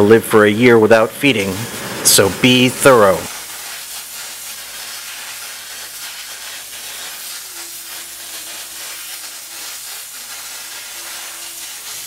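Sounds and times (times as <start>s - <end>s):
steam cleaner hissing: 0.0s - 12.0s.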